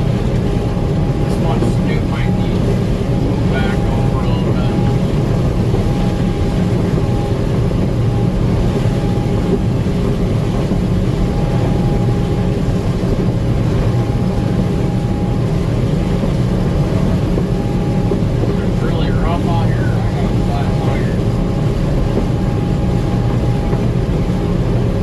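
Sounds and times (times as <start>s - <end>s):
combine harvester droning: 0.0s - 25.0s
faint machine whine: 0.0s - 25.0s.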